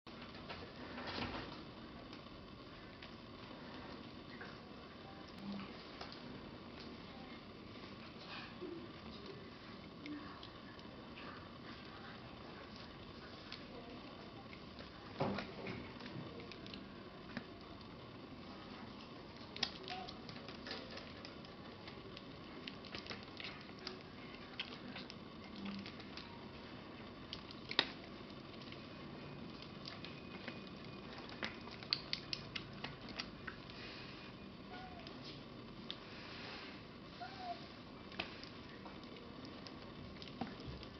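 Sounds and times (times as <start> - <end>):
kittens suckling wet clicks: 7.7 - 40.9.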